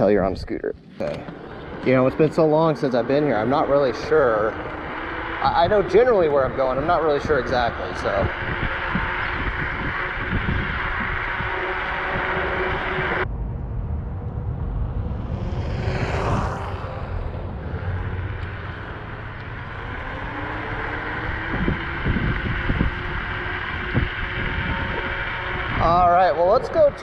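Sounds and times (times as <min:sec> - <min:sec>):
faint steady whine: 0:00.0 - 0:27.0
scooter road rumble: 0:00.0 - 0:27.0
wind noise: 0:00.0 - 0:27.0
passing whoosh: 0:01.0 - 0:27.0.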